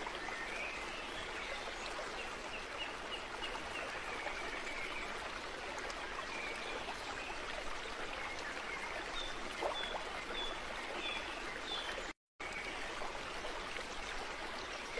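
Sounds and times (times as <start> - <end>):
stream running: 0.0 - 14.9.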